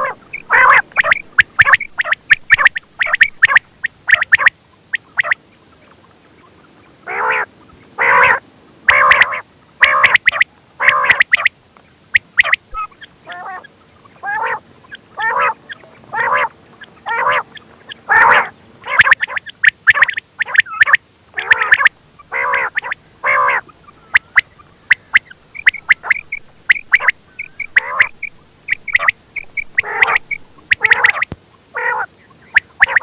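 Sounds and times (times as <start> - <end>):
quail calling: 0.0 - 33.0.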